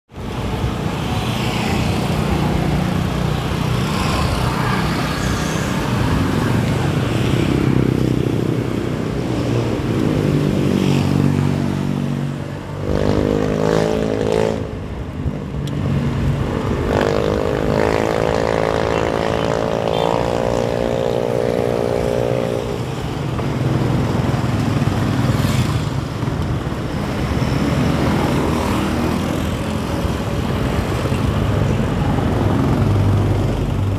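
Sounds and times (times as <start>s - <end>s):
bicycle road noise: 0.1s - 33.9s
rushing wind: 0.1s - 33.9s
motorcycle engines passing: 0.2s - 33.9s.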